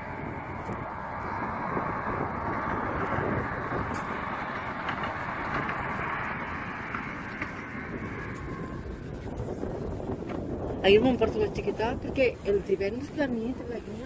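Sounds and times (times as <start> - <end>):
train rushing rumble: 0.0 - 14.0.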